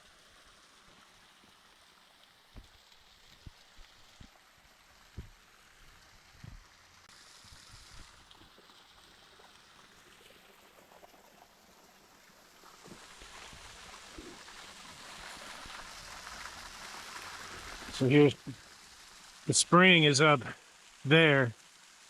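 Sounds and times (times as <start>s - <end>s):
stream running water: 0.0s - 22.0s.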